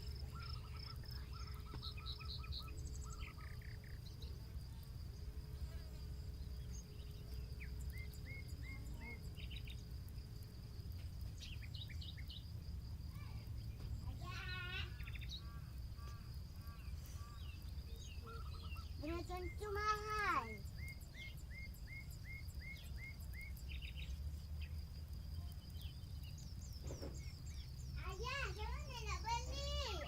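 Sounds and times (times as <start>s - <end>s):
birds chirping: 0.0s - 5.8s, 6.4s - 30.0s
crickets droning: 0.0s - 30.0s.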